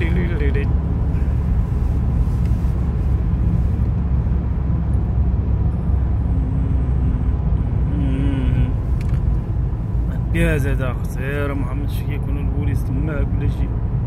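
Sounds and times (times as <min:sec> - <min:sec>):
tyre and engine rumble in car cabin: 0:00.0 - 0:14.0.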